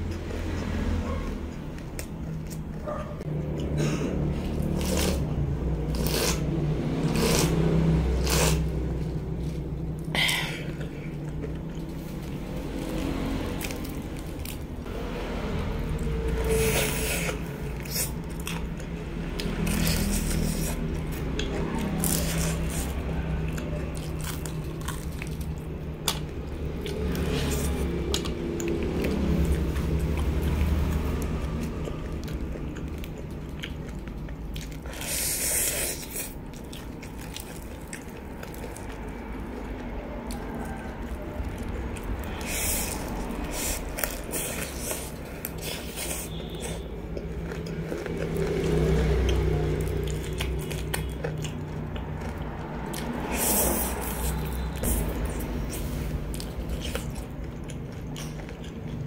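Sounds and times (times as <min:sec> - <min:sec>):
crunching bites and chewing: 0:00.0 - 0:59.0.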